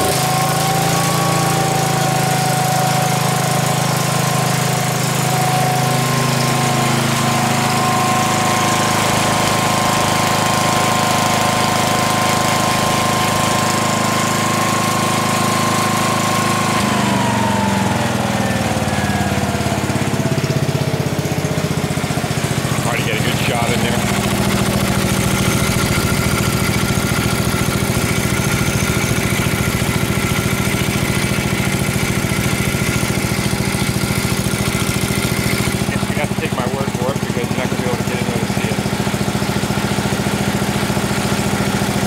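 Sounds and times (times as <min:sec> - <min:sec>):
generator engine drone: 0:00.0 - 0:42.0.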